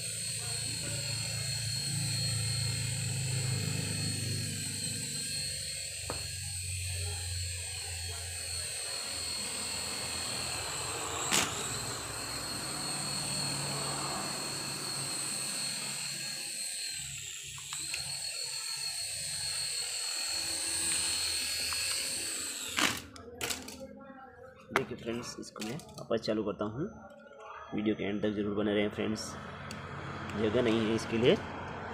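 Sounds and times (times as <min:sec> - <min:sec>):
toy helicopter rotor motors whining: 0:00.0 - 0:23.9, 0:24.8 - 0:26.1, 0:27.0 - 0:31.4.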